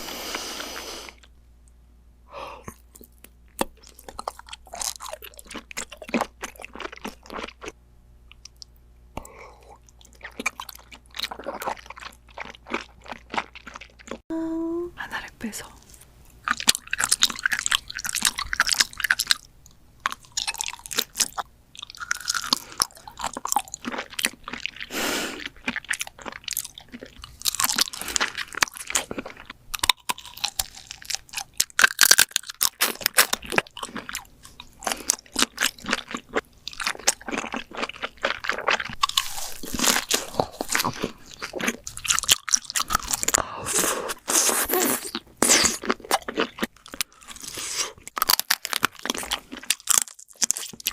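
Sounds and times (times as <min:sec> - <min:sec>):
person chewing crunchy food: 0:02.6 - 0:14.2, 0:16.3 - 0:50.9.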